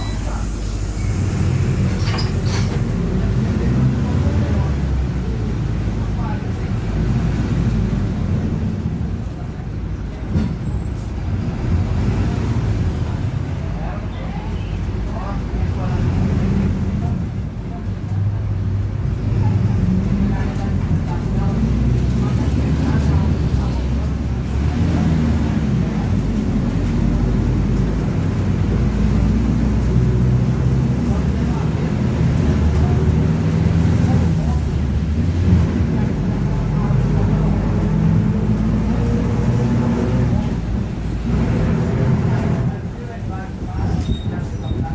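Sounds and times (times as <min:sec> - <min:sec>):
bus engine rumble: 0:00.0 - 0:44.9.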